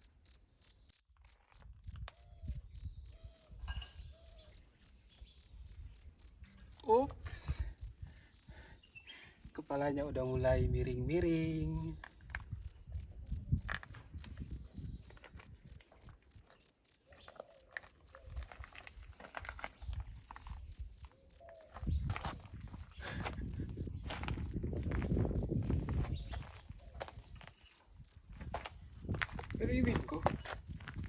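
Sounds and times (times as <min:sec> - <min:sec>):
insect chirping: 0:00.0 - 0:31.0.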